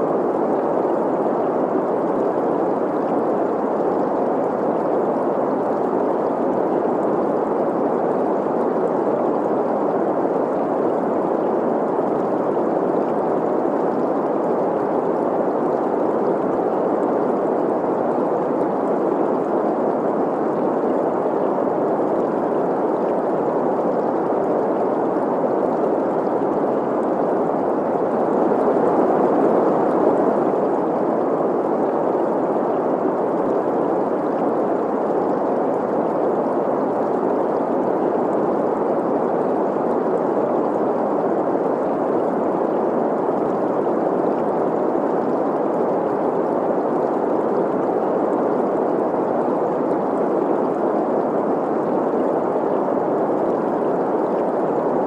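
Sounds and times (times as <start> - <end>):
gurgling stream: 0.0 - 55.0.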